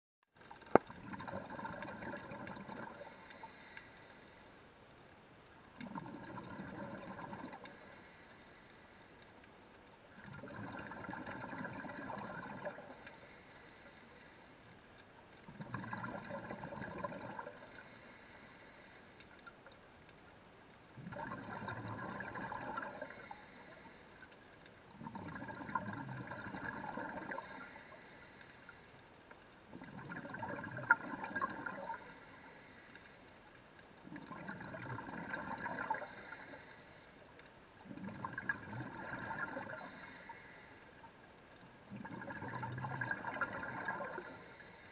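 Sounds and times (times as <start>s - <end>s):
underwater breathing gurgles: 0.6s - 4.5s, 5.8s - 9.2s, 10.1s - 14.7s, 15.3s - 19.6s, 20.9s - 44.9s.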